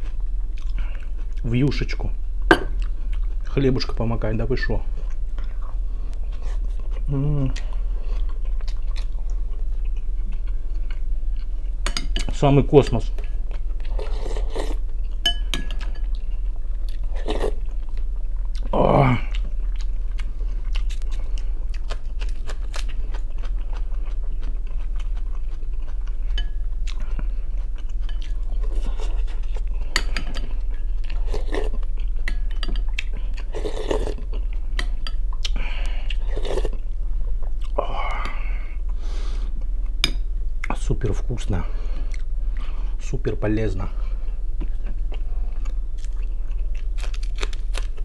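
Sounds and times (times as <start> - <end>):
man chewing food: 0.0 - 1.5, 2.4 - 3.6, 4.9 - 12.3, 13.0 - 40.8, 41.8 - 43.0, 44.0 - 48.0
steady low hum: 0.0 - 48.0.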